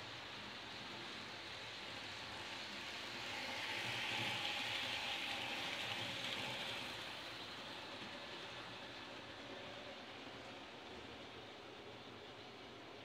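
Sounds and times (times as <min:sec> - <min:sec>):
model train wheels whirring on rails: 0:00.0 - 0:13.0.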